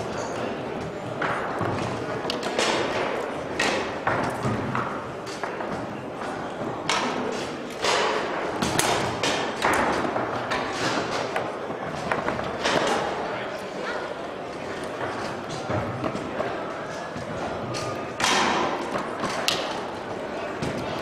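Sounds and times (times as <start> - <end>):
foosball ball and men clacking: 0.0 - 13.3, 14.6 - 21.0
steady background noise: 0.0 - 21.0.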